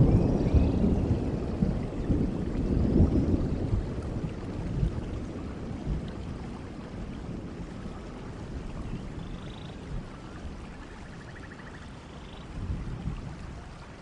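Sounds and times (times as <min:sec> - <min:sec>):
steady rain: 0:00.0 - 0:14.0
thunder rumble: 0:00.0 - 0:14.0.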